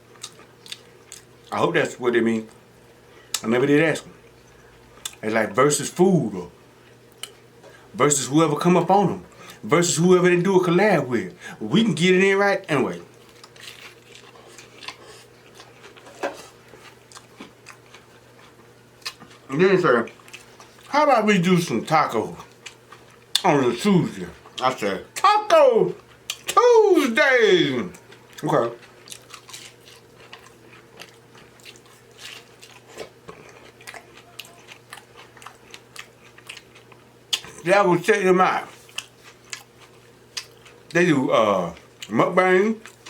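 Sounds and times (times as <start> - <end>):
chewing tacos: 0.0 - 10.5, 11.3 - 43.0.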